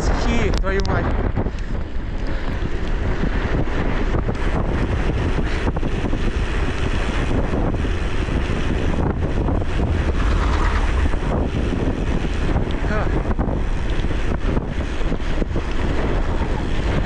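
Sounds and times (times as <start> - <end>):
gusty crackles: 0.0 - 17.0
wind buffeting microphone: 0.0 - 17.0.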